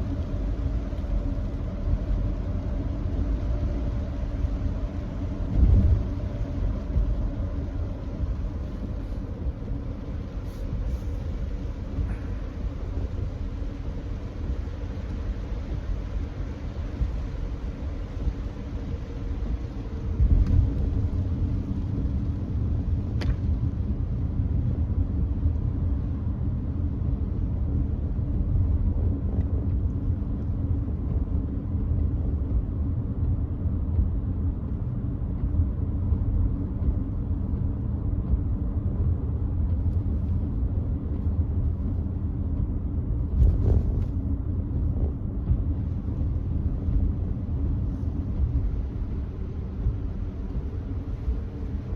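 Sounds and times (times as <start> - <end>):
road and tyre rumble: 0.0 - 51.9.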